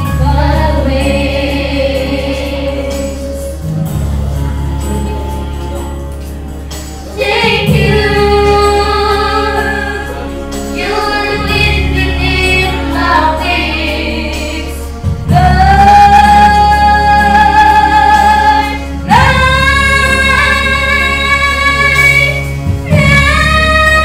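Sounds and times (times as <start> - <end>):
girls singing a duet: 0.0 - 3.6, 7.0 - 24.0.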